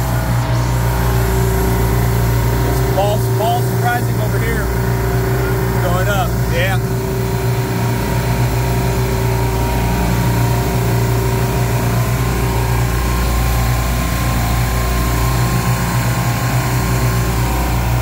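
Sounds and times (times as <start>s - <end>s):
compressors humming: 0.0s - 18.0s.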